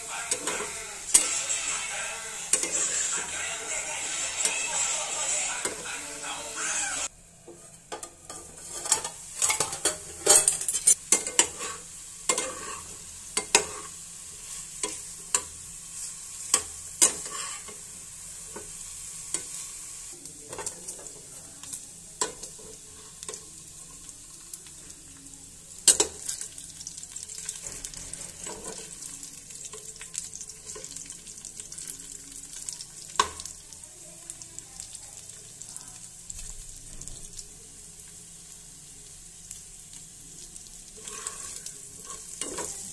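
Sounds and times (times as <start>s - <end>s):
meat sizzling in a pan: 0.0s - 42.9s.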